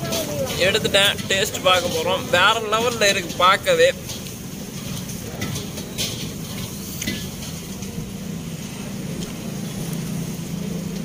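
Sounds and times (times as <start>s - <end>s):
roadside background hiss: 0.0s - 11.0s
steady low hum: 0.0s - 11.0s.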